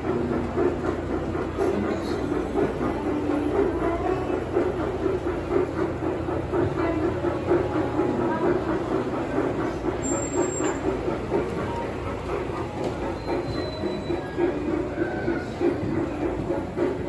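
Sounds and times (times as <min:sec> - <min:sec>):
model train rhythmic clatter: 0:00.0 - 0:17.0.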